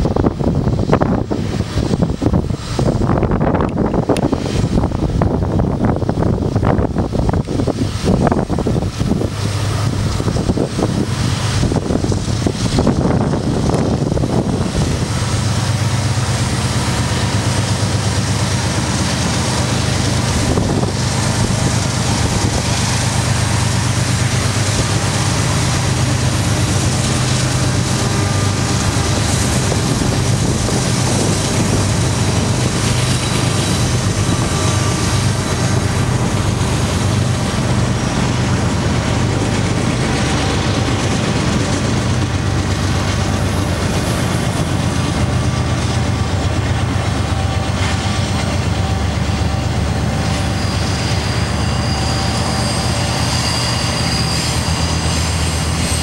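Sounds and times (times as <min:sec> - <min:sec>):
diesel locomotive rumble: 0:00.0 - 0:56.0.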